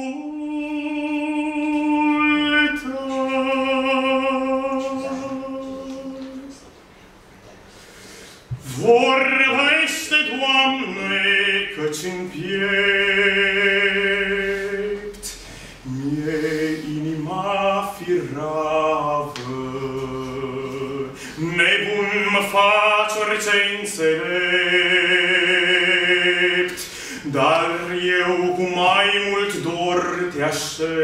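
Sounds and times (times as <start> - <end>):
man singing a hymn: 0.0 - 6.6, 8.5 - 31.0.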